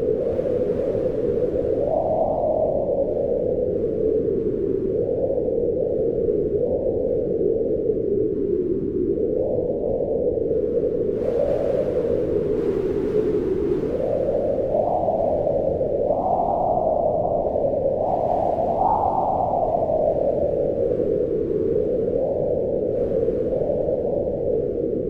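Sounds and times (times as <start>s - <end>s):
wind blowing in gusts: 0.0s - 25.0s.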